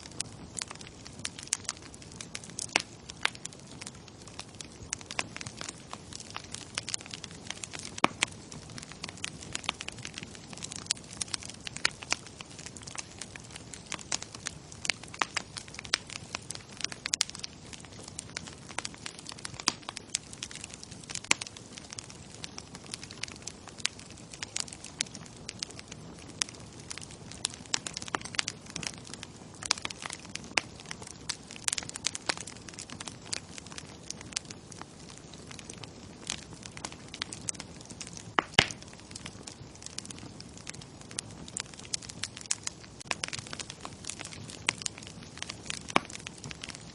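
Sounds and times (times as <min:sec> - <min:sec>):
bonfire crackling: 0:00.0 - 0:46.9.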